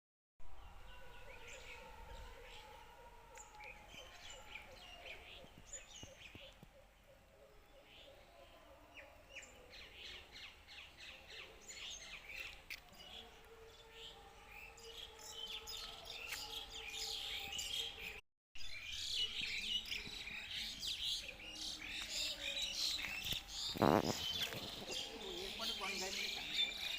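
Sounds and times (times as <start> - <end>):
small birds chirping: 3.4 - 8.4, 9.0 - 26.9.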